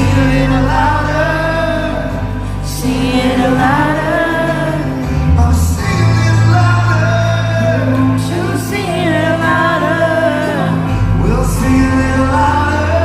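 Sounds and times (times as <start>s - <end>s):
bass and instrumental backing: 0.0s - 13.0s
person singing: 0.0s - 13.0s.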